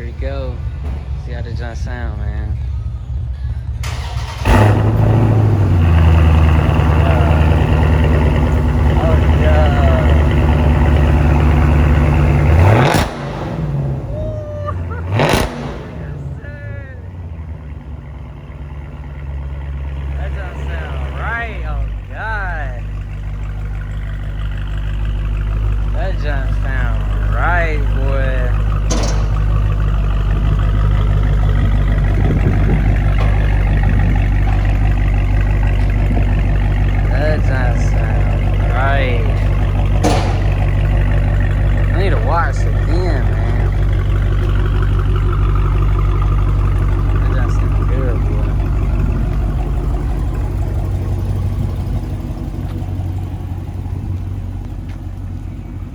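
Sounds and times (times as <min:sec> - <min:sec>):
car engine rumbling: 0:00.0 - 0:55.9.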